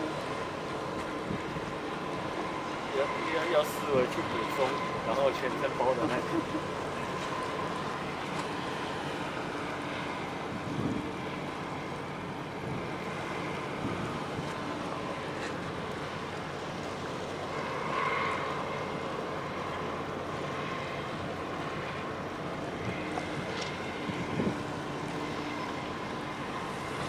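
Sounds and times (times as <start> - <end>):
faint ship engine hum: 0.0 - 27.0
sea noise: 0.0 - 27.0
wind: 0.0 - 27.0.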